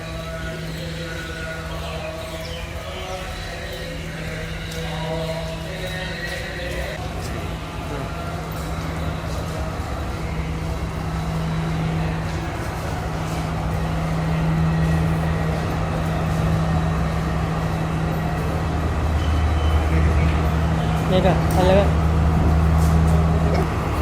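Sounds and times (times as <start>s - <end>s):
diesel train engine idling: 0.0s - 24.0s.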